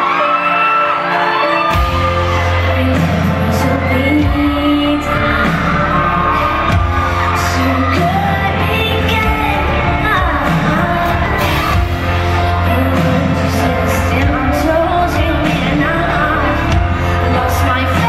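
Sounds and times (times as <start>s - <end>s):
live pop band: 0.0s - 18.0s
heavy bass and drums: 1.8s - 18.0s
woman singing: 1.8s - 18.0s.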